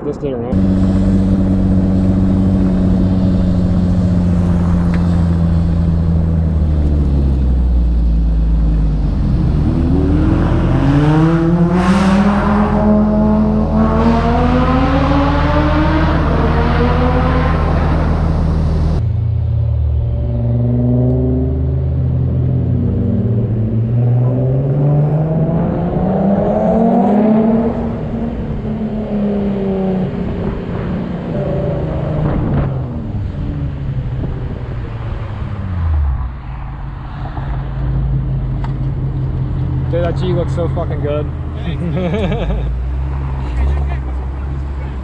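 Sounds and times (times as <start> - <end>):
car engine and exhaust revving: 0.5 - 45.0.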